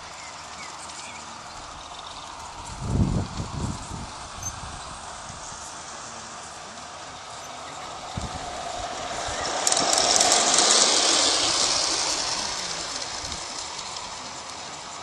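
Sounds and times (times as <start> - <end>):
model train wheels clicking on rails: 0.0 - 15.0.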